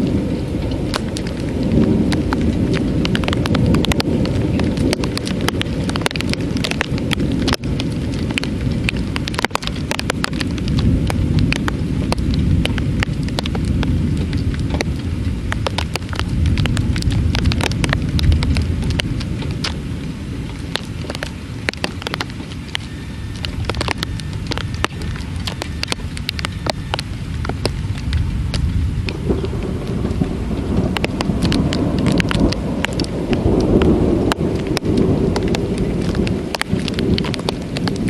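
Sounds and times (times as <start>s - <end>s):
deep rumble: 0.0s - 38.0s
heavy rain: 0.0s - 38.0s.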